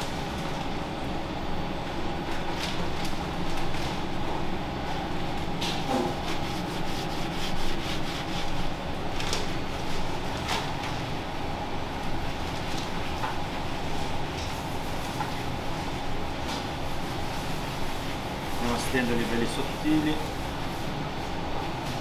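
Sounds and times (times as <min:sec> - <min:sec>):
restaurant kitchen rumble: 0:00.0 - 0:22.0.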